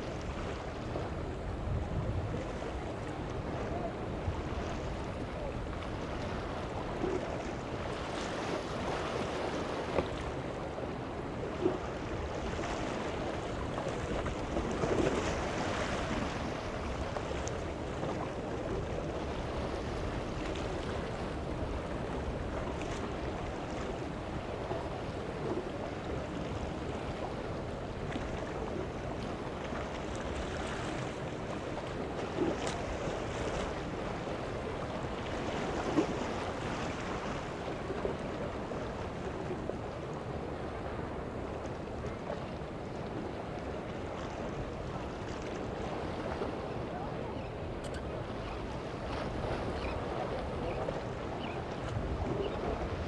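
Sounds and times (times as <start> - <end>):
wind on microphone: 0.0 - 53.0.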